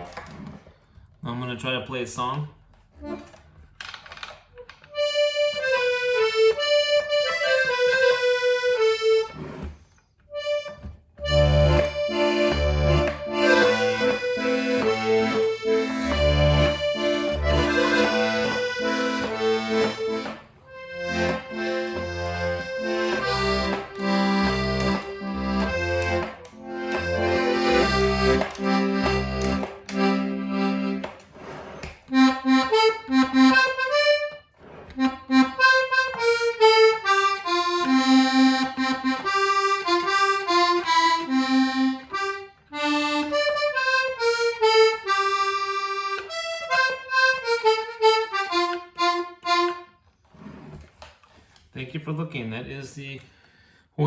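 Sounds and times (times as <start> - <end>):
accordion bass notes and chords: 3.0 - 3.5, 4.9 - 50.8
accordion treble melody: 3.0 - 3.6, 4.9 - 50.8.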